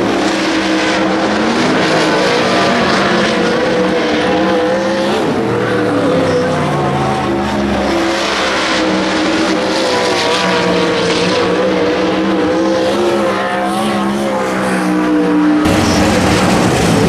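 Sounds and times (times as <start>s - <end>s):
race car engines running: 0.0s - 17.0s.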